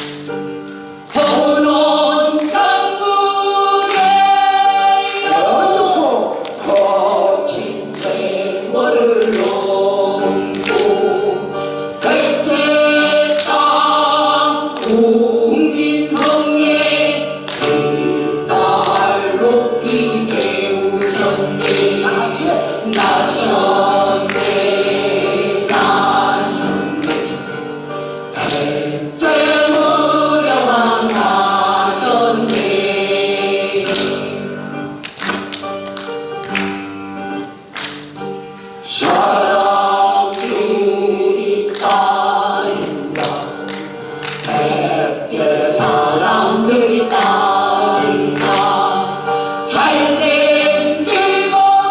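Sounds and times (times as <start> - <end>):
group of voices singing folk song: 0.0 - 51.9.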